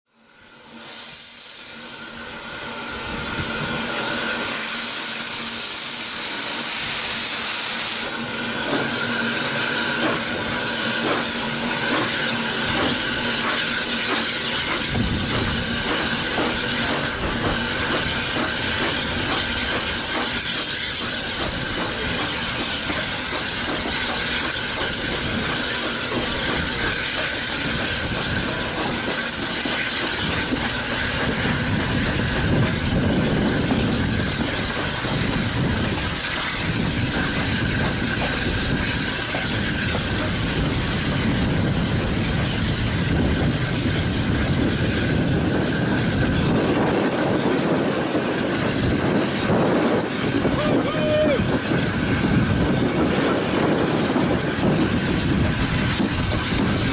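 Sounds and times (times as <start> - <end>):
steam hissing: 0.2 - 56.9
steam locomotive exhaust beats: 0.3 - 56.9
train wheels rumbling on rails: 0.3 - 56.9.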